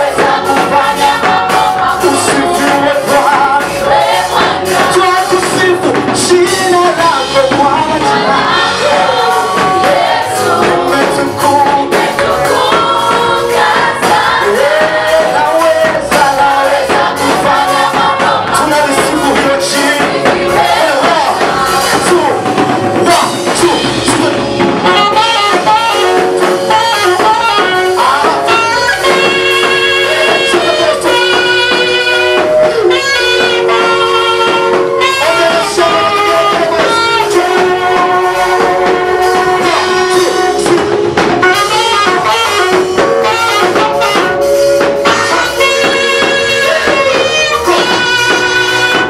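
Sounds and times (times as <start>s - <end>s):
live gospel band music: 0.0s - 49.0s.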